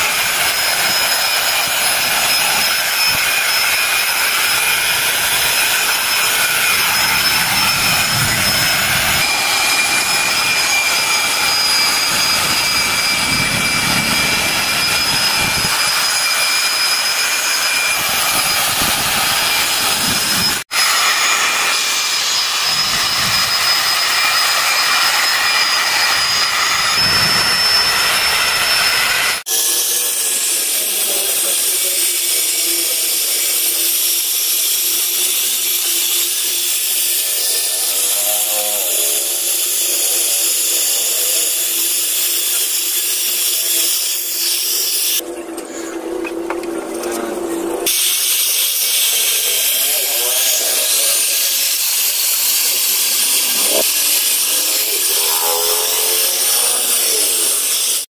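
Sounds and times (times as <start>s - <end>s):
rotary polisher whining: 0.0s - 58.0s.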